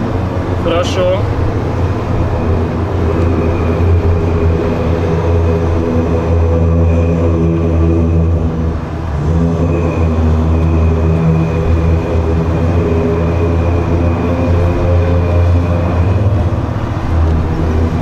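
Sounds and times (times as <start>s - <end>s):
low droning hum: 0.0s - 18.0s
thin high whine: 0.0s - 18.0s.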